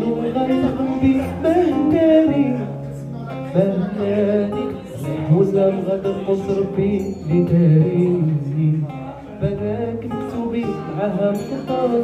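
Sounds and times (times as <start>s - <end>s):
acoustic guitar: 0.0s - 12.0s
man singing: 0.0s - 12.0s.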